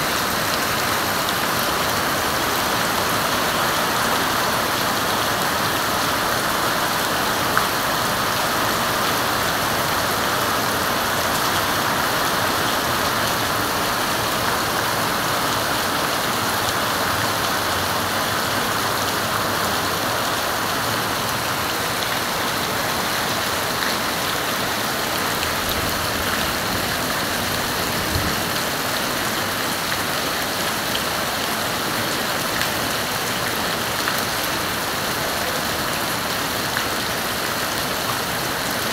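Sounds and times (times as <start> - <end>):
rain splashing into standing water: 0.0 - 38.9.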